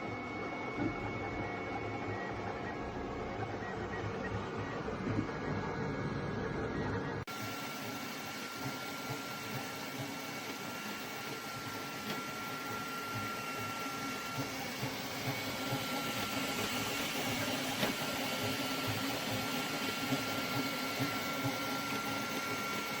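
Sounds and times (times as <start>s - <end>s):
printer motors and fans humming: 0.0s - 23.0s.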